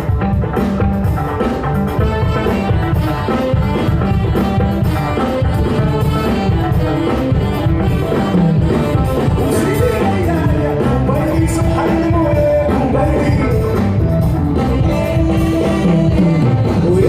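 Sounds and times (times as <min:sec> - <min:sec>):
loud music with singing: 0:00.0 - 0:17.0.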